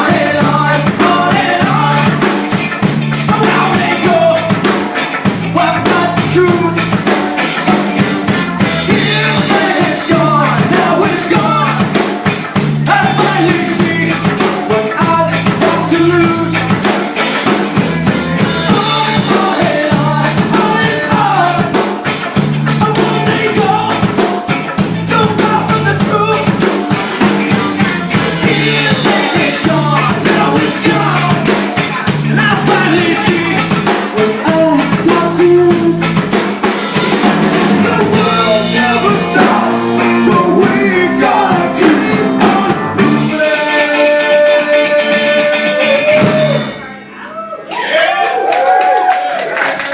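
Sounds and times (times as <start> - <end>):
person singing: 0.0 - 2.5, 3.2 - 7.0, 8.8 - 17.5, 18.4 - 26.8, 27.5 - 36.2, 37.8 - 47.4
bass: 0.0 - 49.9
drums: 0.0 - 49.9
guitar: 0.0 - 49.9.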